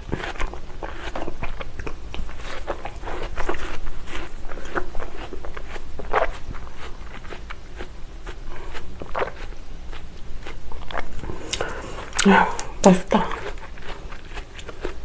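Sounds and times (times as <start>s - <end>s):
chewing with wet crunches: 0.0s - 15.0s.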